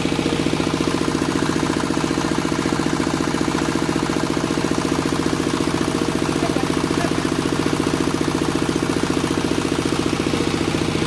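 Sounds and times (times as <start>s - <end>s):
diesel engine pulsing steadily: 0.0s - 11.0s.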